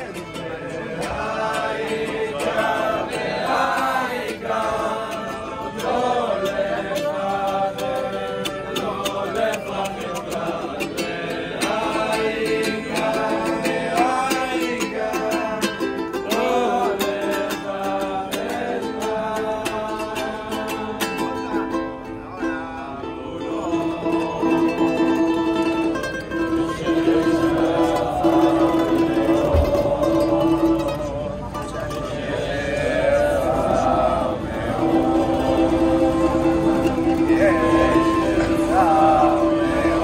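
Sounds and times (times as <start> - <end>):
men singing together: 0.0 - 21.8, 22.4 - 40.0
strummed guitar: 0.0 - 40.0.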